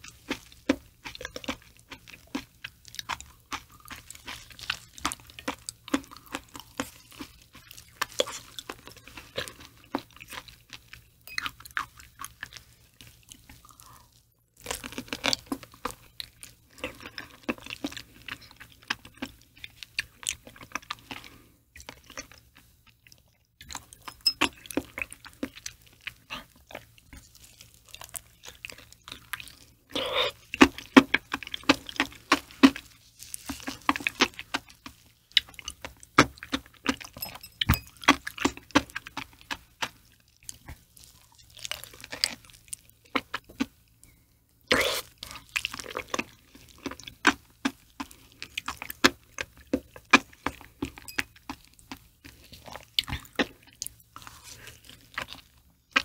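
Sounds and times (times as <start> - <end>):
wet chewing and squishing: 0.0 - 56.0.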